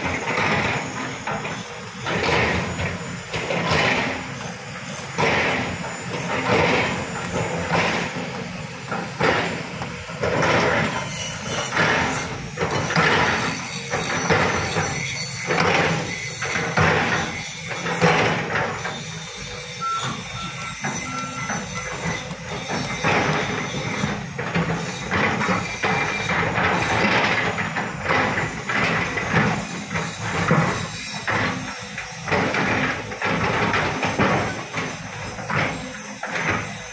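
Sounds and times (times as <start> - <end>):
diesel excavator engine: 0.0 - 36.9.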